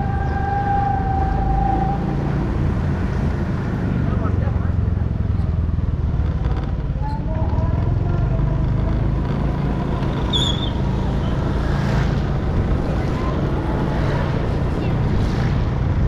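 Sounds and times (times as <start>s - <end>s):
road noise on wet asphalt: 0.0s - 16.0s
motorcycle engine running: 2.6s - 16.0s.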